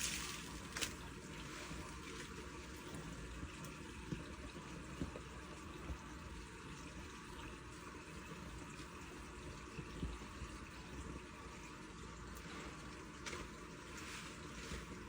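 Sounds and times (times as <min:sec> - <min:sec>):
washing machine running with water: 0:00.0 - 0:15.0.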